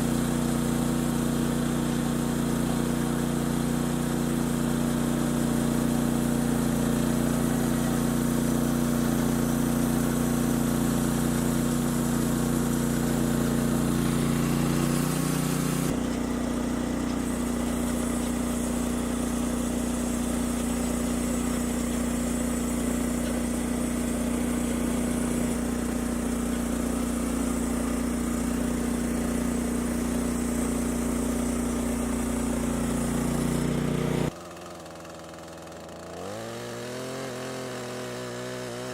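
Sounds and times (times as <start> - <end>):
sawmill gasoline engine running: 0.0 - 38.9.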